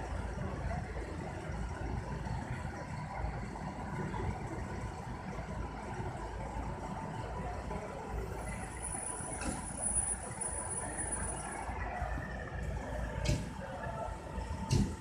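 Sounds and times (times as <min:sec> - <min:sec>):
engines idling: 0:00.0 - 0:15.0.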